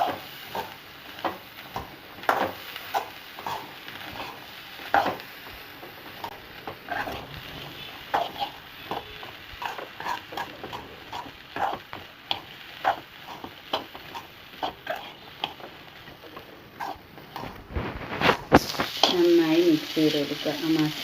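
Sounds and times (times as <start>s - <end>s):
spoon stirring and scraping pan: 0.0s - 19.9s.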